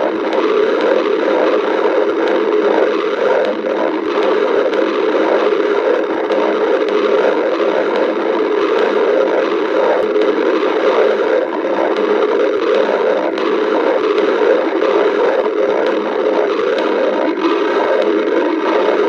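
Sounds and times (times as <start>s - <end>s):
stomach growling: 0.0s - 19.0s.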